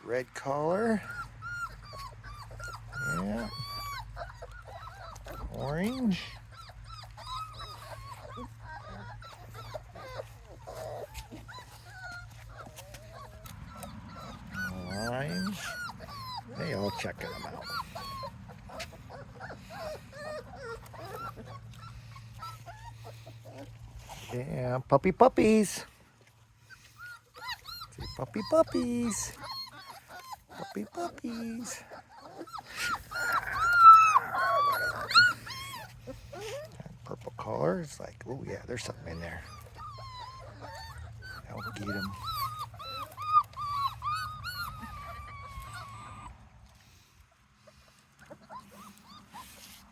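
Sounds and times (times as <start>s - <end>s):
puppies whimpering and whining: 0.0s - 49.9s.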